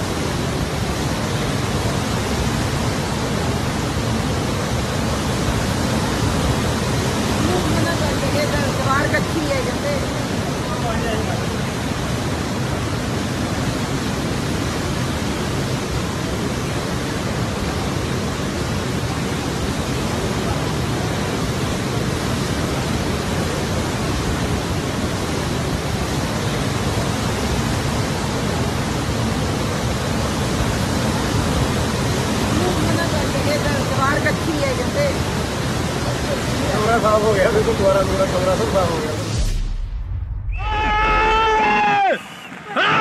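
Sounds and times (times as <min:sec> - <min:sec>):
floodwater rushing: 0:00.0 - 0:39.8, 0:40.5 - 0:43.0.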